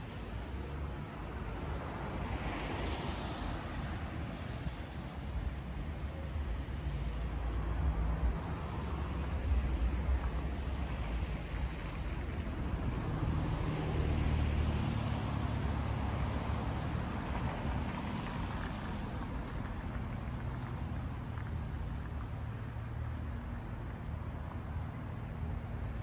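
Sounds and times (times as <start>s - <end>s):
city traffic noise: 0.0s - 26.0s.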